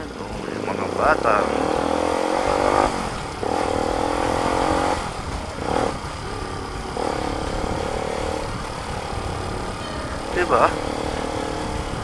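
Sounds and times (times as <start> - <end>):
motorcycle engine running: 0.0 - 12.0
road rumble: 0.0 - 12.0
wind: 0.0 - 12.0.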